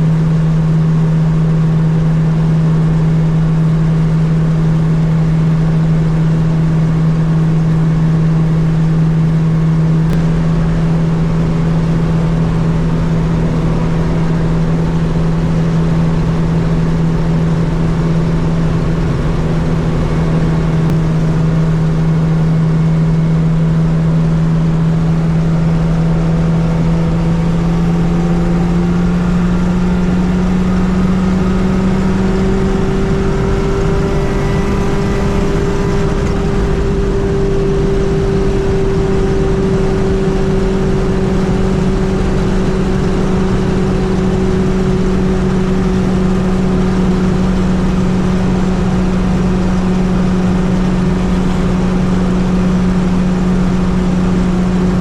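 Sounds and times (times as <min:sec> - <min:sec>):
car engine drone: 0:00.0 - 0:55.0.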